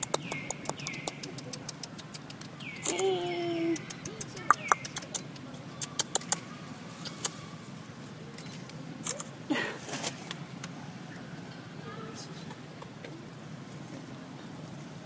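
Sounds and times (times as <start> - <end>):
monkeys moving with clicks and rustles: 0.0 - 11.3, 12.0 - 15.0.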